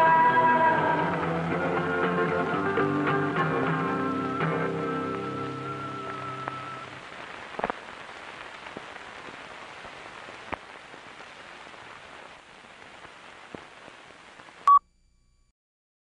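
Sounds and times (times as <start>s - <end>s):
film soundtrack hiss and crackle: 0.0s - 15.5s.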